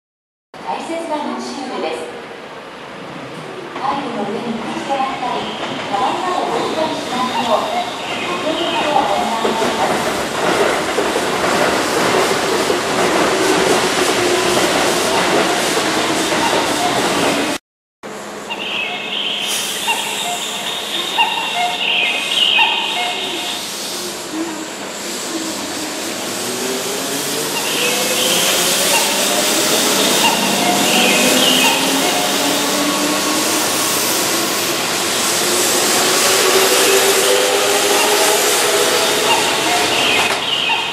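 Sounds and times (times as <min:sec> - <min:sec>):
train wheels rumbling on rail: 0:02.9 - 0:40.9.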